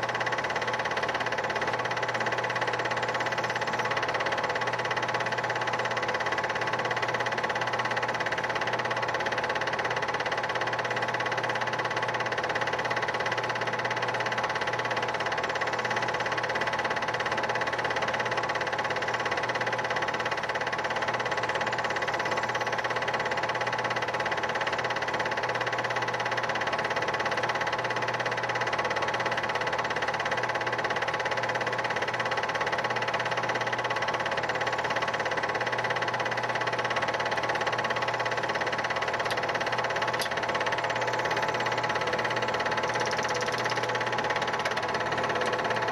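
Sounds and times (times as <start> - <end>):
film projector whirring: 0.0 - 45.9.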